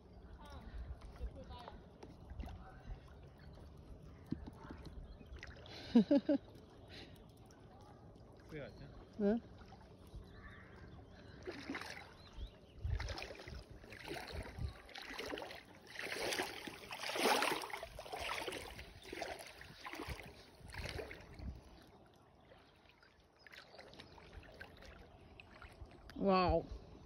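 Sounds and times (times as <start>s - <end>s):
feet wading through water: 0.0s - 27.0s.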